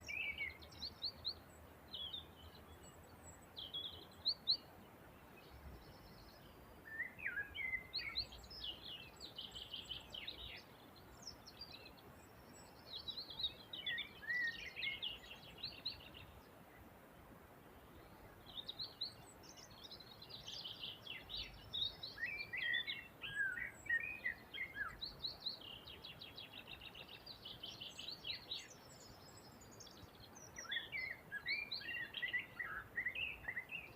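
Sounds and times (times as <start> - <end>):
faint background hiss: 0.0 - 33.9
songbirds chirping and trilling: 0.0 - 33.9.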